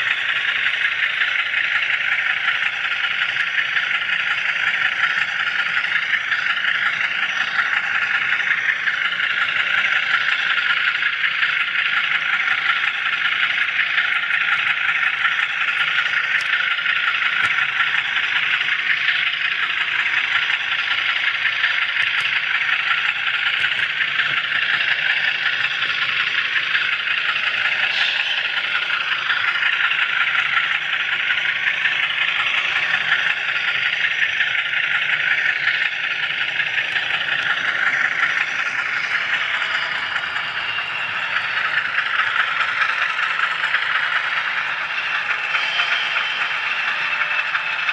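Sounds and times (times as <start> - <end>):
model train whirring rattle: 0.0 - 47.9.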